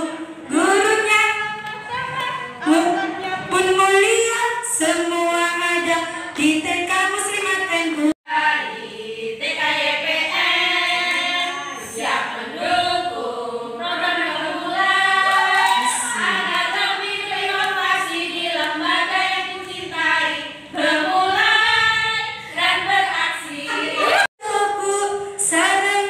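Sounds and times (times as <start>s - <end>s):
women singing a cheer song: 0.0s - 26.0s.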